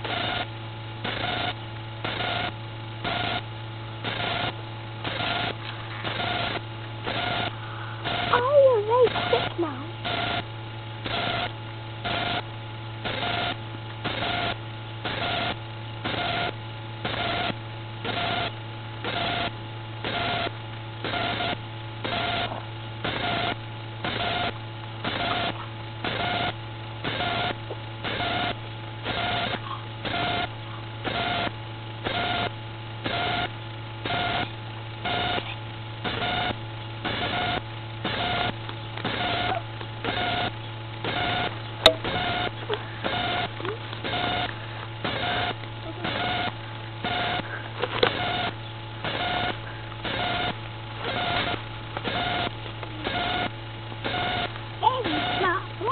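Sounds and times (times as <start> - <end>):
buzzing electronic pulse: 0.0 - 55.9
electrical hum: 0.0 - 55.9.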